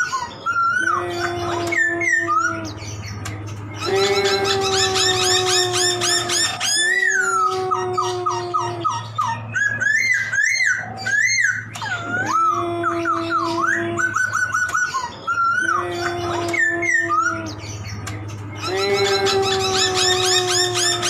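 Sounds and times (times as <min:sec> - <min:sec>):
laughingthrush singing: 0:00.0 - 0:21.0.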